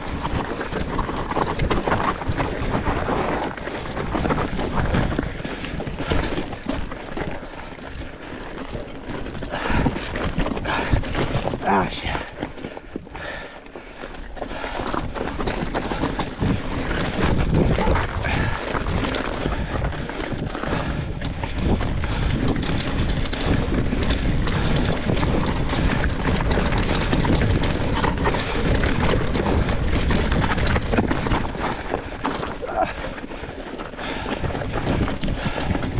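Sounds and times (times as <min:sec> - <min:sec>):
wind on microphone: 0:00.0 - 0:13.4, 0:14.5 - 0:35.9
bike rattling and clicking: 0:00.0 - 0:35.9
tyres crunching over gravel: 0:00.0 - 0:35.9.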